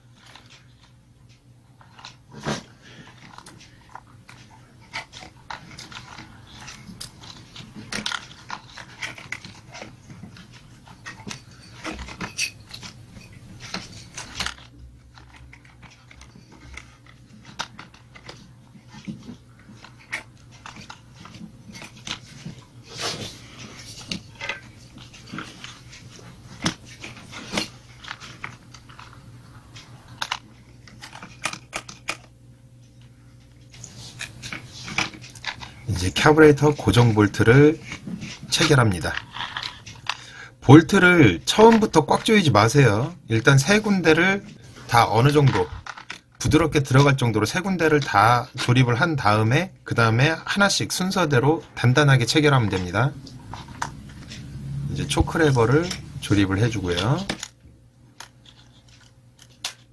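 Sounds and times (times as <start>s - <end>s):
steady low hum: 0.0s - 59.9s
plastic and metal parts rattling: 1.8s - 29.2s, 29.8s - 32.4s, 33.8s - 48.9s, 52.3s - 59.9s.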